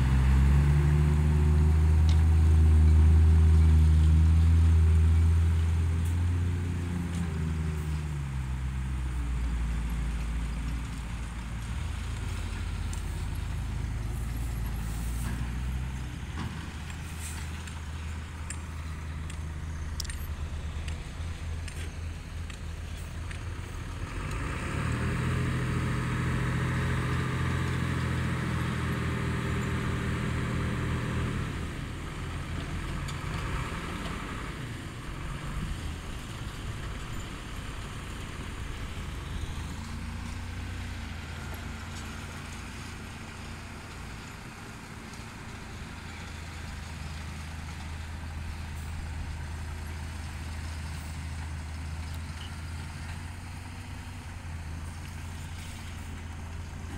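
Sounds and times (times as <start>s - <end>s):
diesel engine idling and revving: 0.0s - 56.9s.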